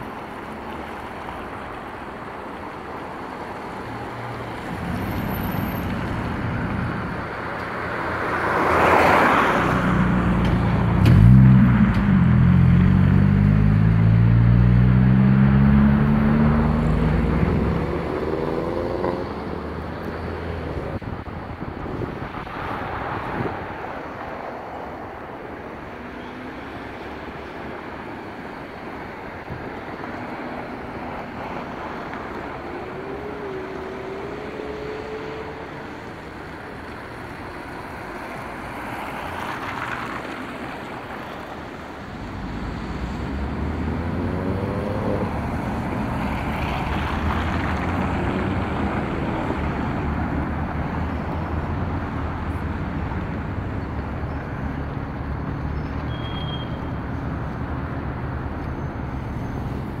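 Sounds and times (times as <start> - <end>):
cars driving past: 0.0 - 60.0.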